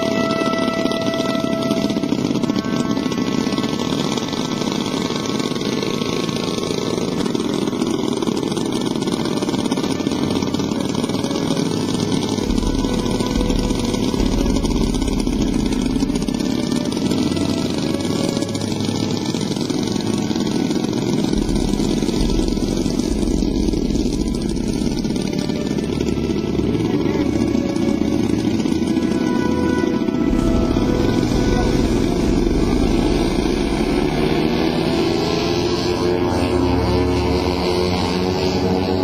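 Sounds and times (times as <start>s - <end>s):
model plane engines buzzing: 0.0s - 39.0s.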